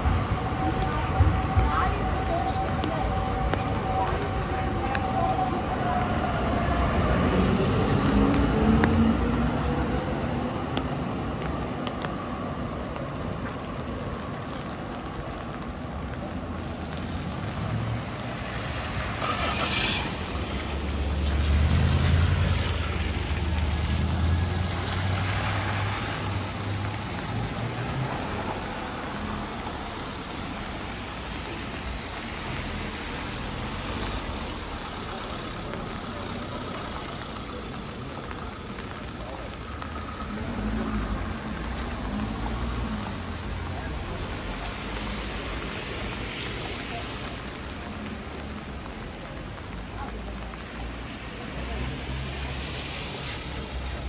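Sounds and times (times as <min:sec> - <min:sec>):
heavy rain: 0:00.0 - 0:54.0
vehicles passing on wet street: 0:00.0 - 0:54.0.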